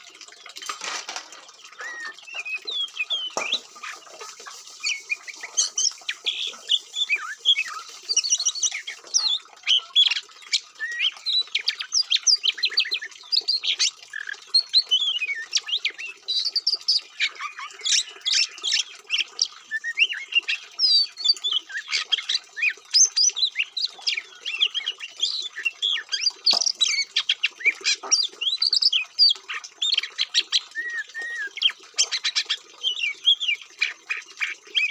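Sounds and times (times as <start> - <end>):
songbird singing: 1.3 - 34.9.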